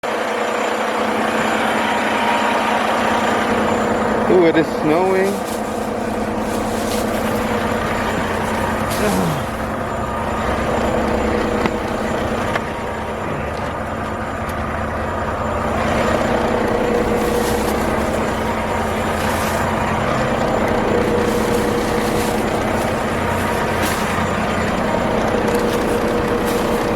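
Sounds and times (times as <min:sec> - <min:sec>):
truck engine idling: 0:00.0 - 0:26.9.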